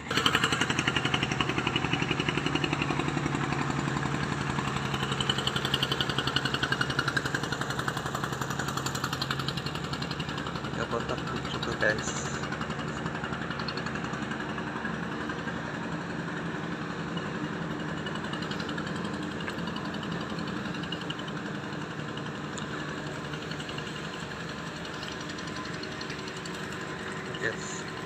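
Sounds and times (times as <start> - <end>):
engine chugging: 0.0 - 28.0.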